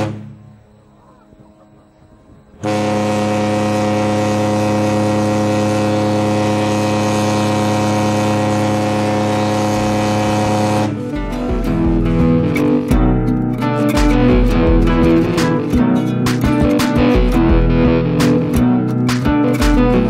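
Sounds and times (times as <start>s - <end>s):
ship's horn blast: 0.0s - 20.0s.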